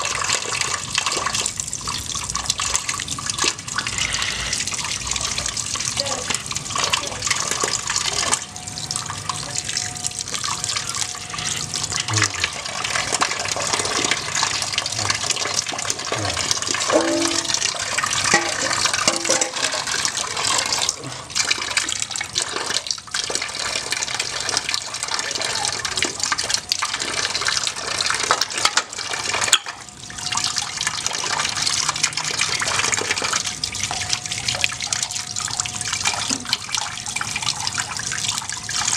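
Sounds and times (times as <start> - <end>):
tap water pouring into pot: 0.0 - 38.9.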